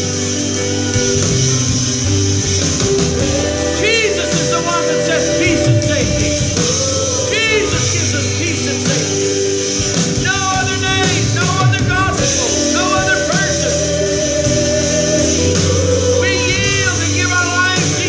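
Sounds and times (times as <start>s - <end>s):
instrumental backing: 0.0s - 18.0s
person singing slow melody: 3.1s - 18.0s.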